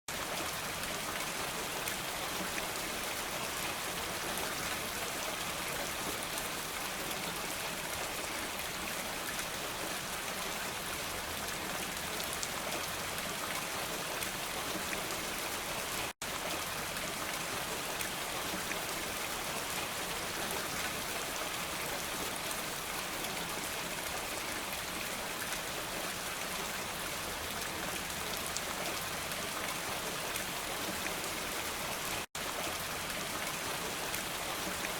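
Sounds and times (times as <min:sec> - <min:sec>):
steady rainfall: 0:00.1 - 0:34.9.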